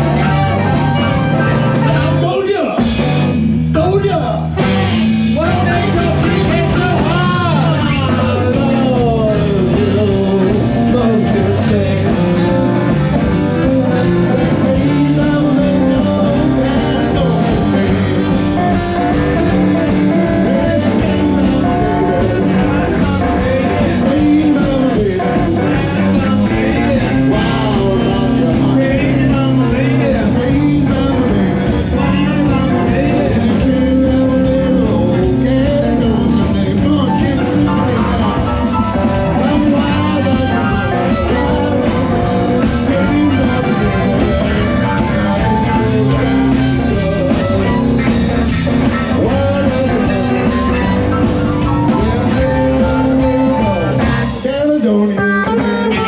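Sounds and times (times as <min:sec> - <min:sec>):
saxophone: 0:00.0 - 0:02.2, 0:07.2 - 0:56.0
blues band playing: 0:00.0 - 0:56.0
drum kit: 0:00.0 - 0:56.0
electric guitar: 0:00.0 - 0:56.0.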